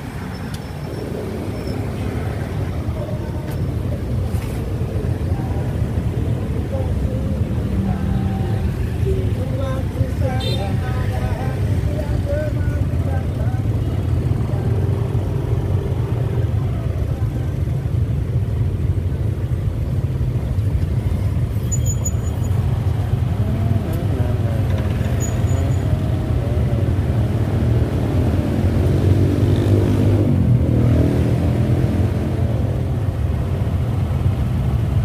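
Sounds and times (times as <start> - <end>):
motorcycle and scooter engines: 0.0 - 35.0.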